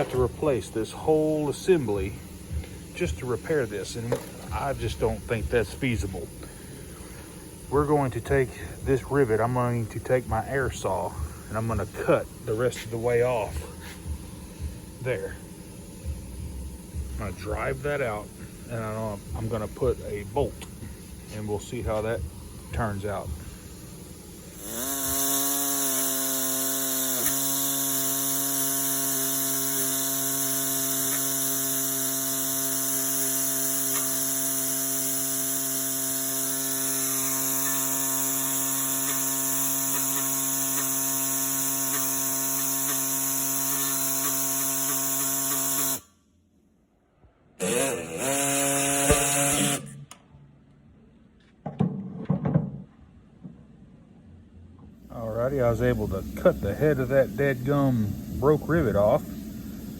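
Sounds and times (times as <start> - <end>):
pneumatic air saw hissing: 0.0 - 46.2, 47.6 - 50.2, 55.0 - 59.9.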